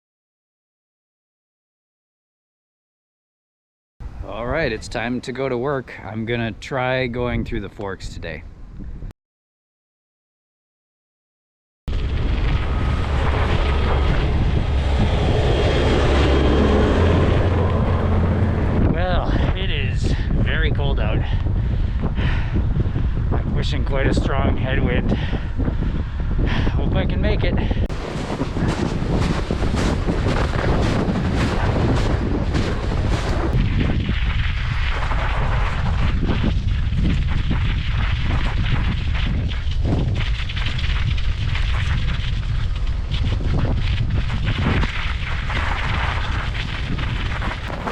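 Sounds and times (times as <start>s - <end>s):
wind buffeting microphone: 4.0s - 9.1s, 11.9s - 47.9s.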